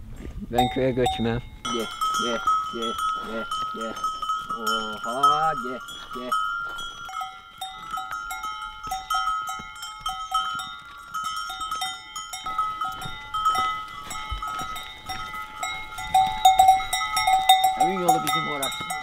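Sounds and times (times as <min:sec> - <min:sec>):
cowbells clanking: 0:00.4 - 0:19.0.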